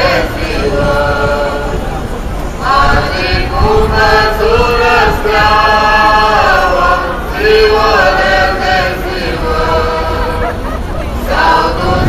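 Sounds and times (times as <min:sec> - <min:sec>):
choir singing long notes: 0:00.0 - 0:12.0.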